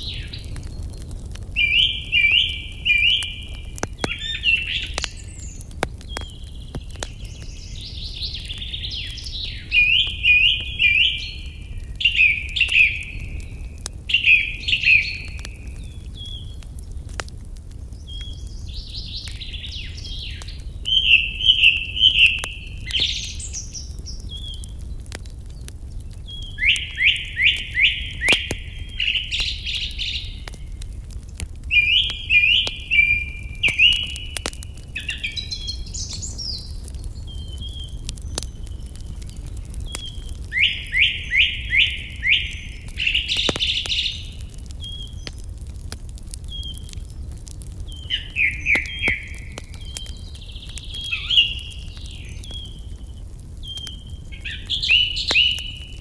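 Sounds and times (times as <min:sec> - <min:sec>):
songbird singing: 0:00.0 - 0:17.0, 0:17.8 - 0:45.4, 0:46.4 - 0:56.0
wood fire crackling: 0:00.0 - 0:56.0.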